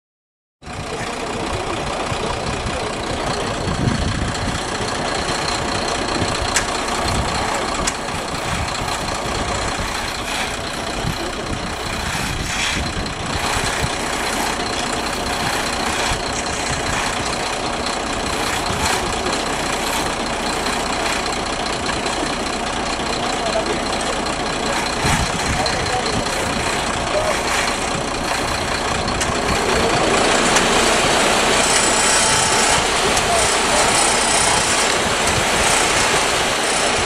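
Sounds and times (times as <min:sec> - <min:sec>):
engine running: 0:00.6 - 0:37.0.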